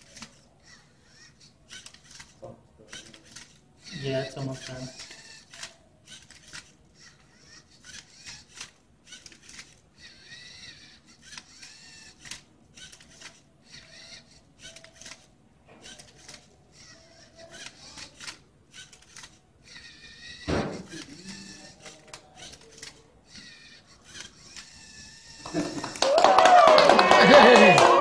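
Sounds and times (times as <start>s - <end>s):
small electric motors whirring: 0.0s - 28.0s.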